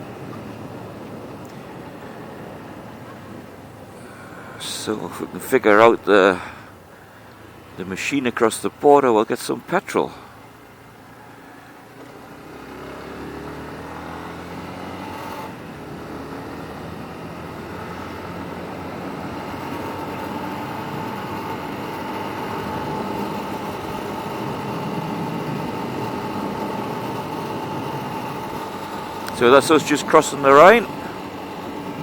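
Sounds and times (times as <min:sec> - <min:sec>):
road noise: 0:00.0 - 0:32.0
vehicle engine: 0:00.0 - 0:32.0.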